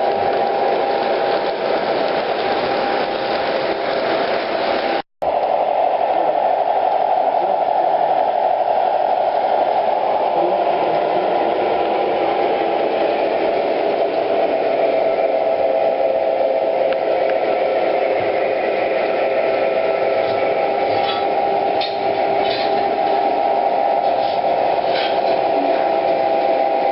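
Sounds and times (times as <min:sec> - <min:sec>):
model trains running on track: 0:00.0 - 0:26.9.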